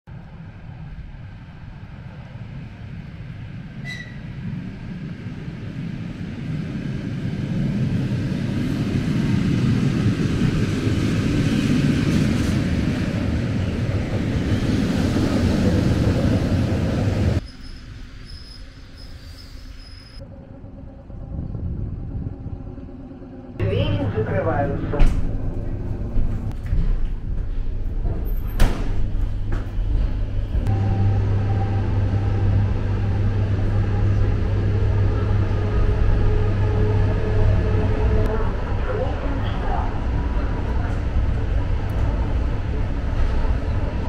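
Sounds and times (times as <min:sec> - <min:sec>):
rolling vehicle rumble: 0:00.1 - 0:44.0.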